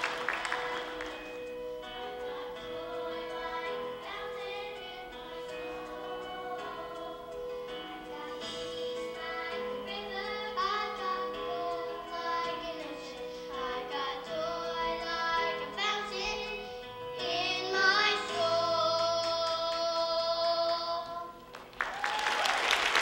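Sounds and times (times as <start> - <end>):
children's choir singing: 0.0 - 21.4.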